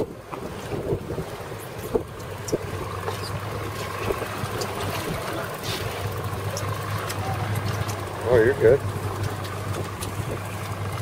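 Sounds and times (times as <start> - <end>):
outboard motors humming: 0.0 - 11.0
water noise: 0.0 - 11.0
wind: 0.0 - 11.0.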